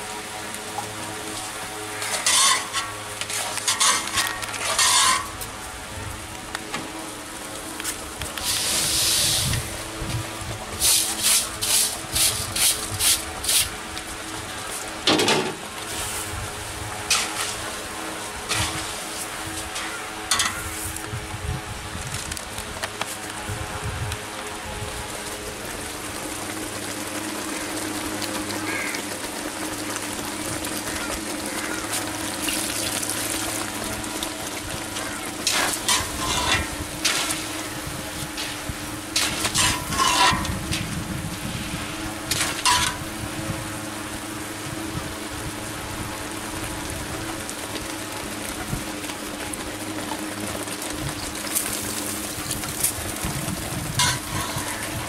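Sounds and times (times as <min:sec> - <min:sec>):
steady hissing noise: 0:00.0 - 0:55.0.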